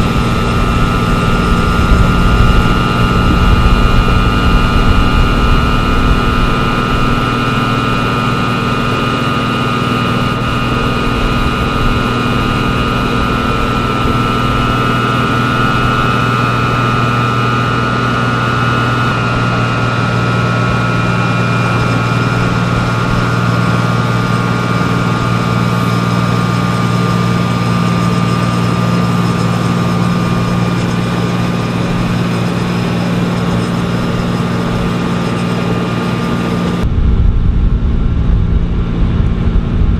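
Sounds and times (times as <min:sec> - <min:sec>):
diesel machinery engine drone: 0:00.0 - 0:39.9
high machine whine: 0:00.0 - 0:39.9.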